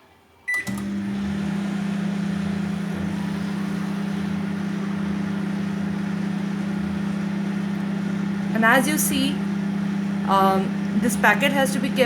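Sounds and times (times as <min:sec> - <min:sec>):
microwave oven humming: 0:00.5 - 0:12.0.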